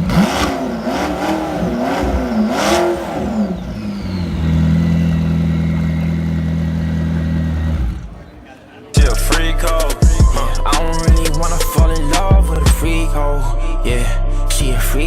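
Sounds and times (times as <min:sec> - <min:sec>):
car engine revving and idling: 0:00.0 - 0:08.4, 0:09.0 - 0:15.0.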